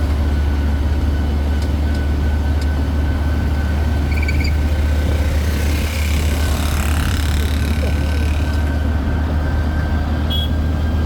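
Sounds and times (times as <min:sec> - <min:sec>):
road train engine droning: 0:00.0 - 0:11.0.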